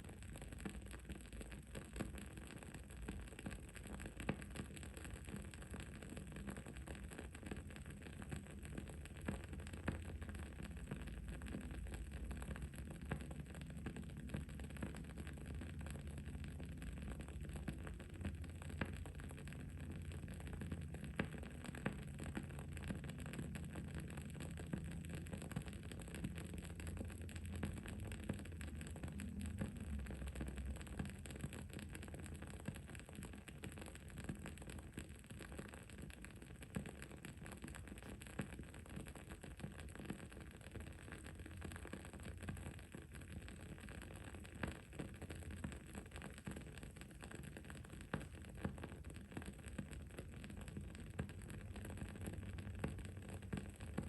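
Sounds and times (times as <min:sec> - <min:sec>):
candle crackling and popping: 0:00.0 - 0:54.0.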